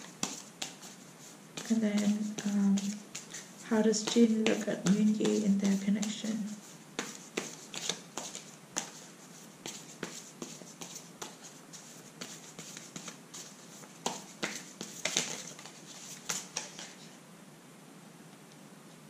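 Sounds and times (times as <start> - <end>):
cards being shuffled: 1.6 - 17.0.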